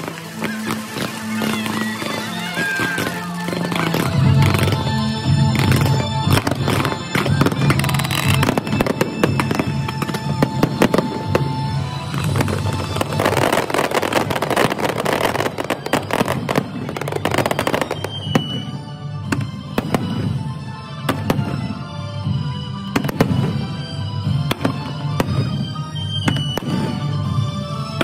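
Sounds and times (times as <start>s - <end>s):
fireworks bangs and crackling: 0.0s - 28.0s
music: 0.0s - 28.0s.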